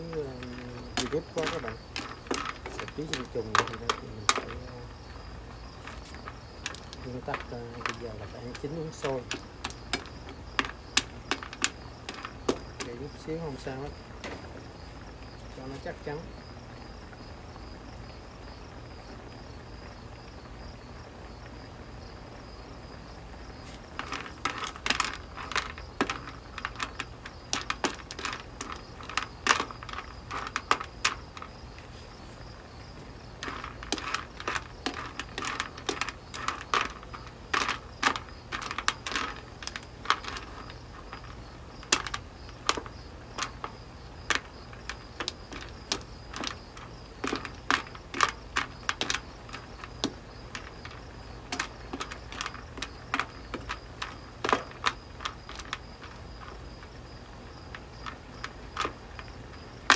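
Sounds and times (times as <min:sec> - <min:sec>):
snail shells clattering in a wok: 0:00.0 - 0:15.1, 0:23.7 - 0:59.9.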